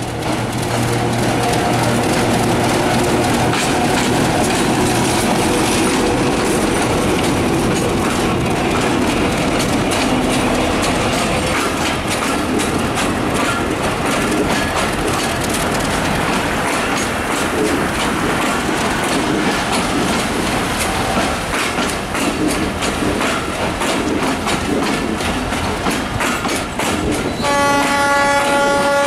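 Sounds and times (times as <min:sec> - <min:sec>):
locomotive engine hum: 0:00.0 - 0:29.0
train wheels clacking over rail joints: 0:00.0 - 0:29.0.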